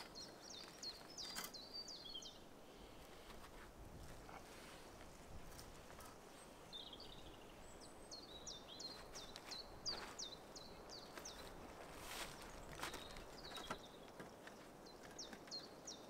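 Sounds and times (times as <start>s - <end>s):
faint outdoor background noise: 0.0s - 16.0s.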